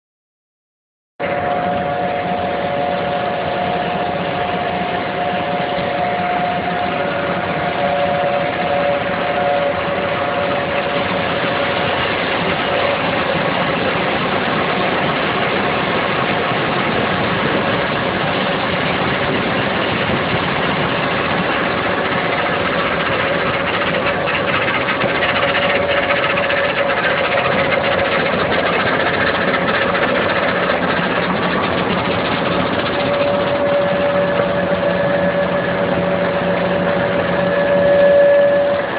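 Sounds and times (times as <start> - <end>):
machinery whine: 1.2 - 38.9
mixing plant machinery din: 1.2 - 38.9.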